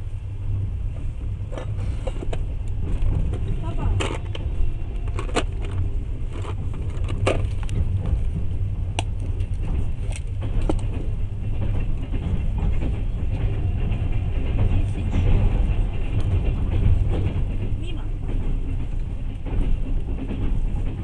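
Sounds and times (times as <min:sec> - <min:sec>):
train wheels rumbling on rails: 0:00.0 - 0:21.0
sharp clicks and knocks: 0:01.5 - 0:21.0.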